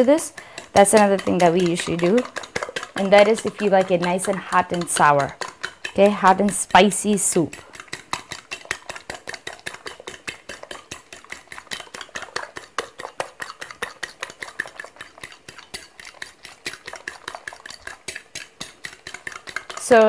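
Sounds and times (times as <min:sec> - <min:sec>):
eggs beaten in a bowl: 0:00.0 - 0:20.0.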